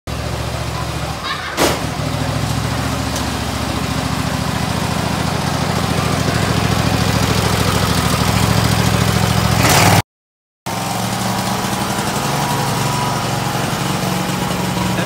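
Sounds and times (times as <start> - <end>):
mower engine idling: 0.1 - 10.0, 10.7 - 15.0.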